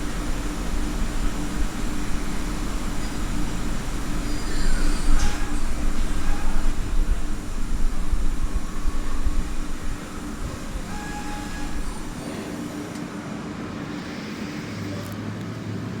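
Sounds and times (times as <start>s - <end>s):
lathe running with mechanical rumble: 0.0s - 14.9s.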